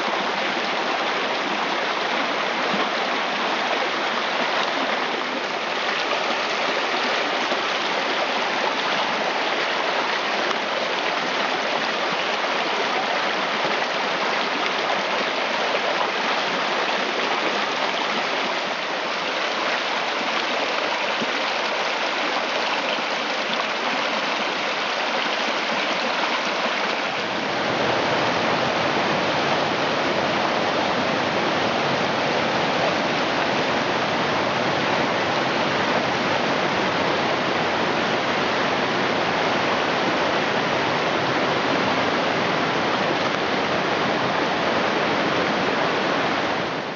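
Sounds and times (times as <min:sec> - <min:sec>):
river rushing over rocks: 0:00.0 - 0:46.9.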